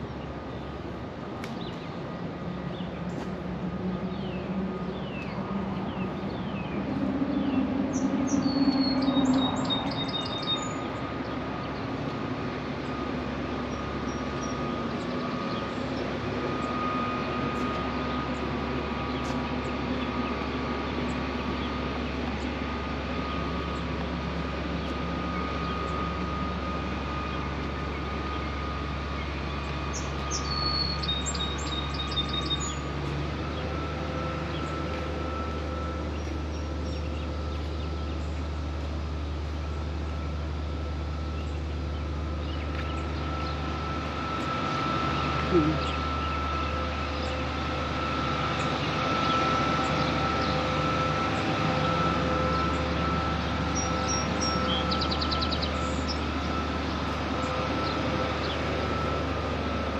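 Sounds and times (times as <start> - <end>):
low background hum: 0.0 - 59.9
songbird singing: 0.0 - 59.9.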